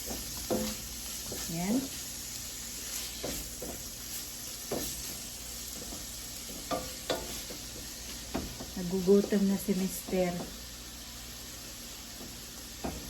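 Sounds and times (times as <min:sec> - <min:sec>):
steak sizzling in a frying pan: 0:00.0 - 0:13.0.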